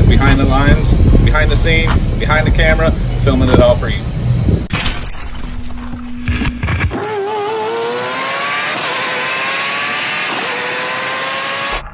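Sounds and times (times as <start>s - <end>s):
engine whine rising in pitch: 0.0s - 4.7s, 5.4s - 11.9s.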